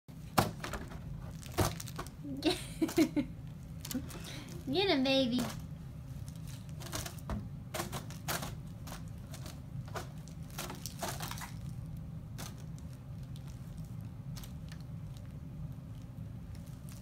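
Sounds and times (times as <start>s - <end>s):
foil balloon crinkling: 0.2s - 17.0s.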